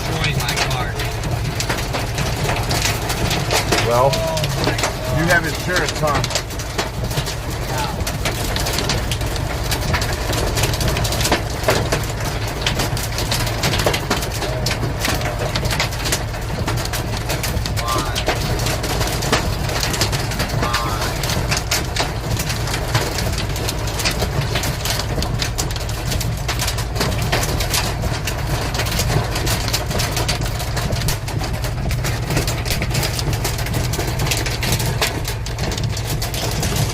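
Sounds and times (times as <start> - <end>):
hailstones striking hard surfaces: 0.0 - 36.9
low rumble: 0.0 - 36.9.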